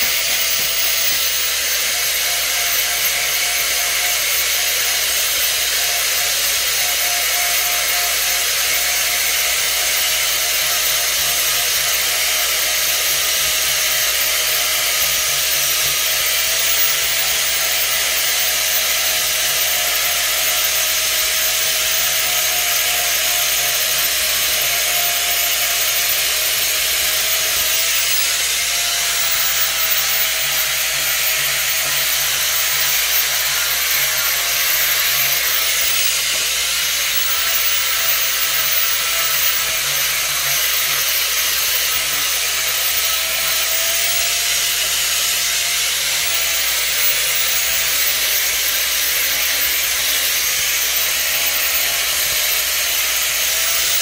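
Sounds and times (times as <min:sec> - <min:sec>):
motor running loudly: 0:00.0 - 0:54.0.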